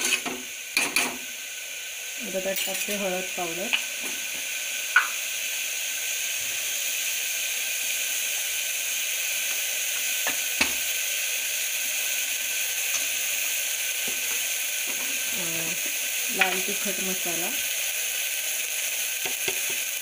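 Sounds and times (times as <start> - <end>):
paste sizzling in hot oil: 0.0 - 20.0.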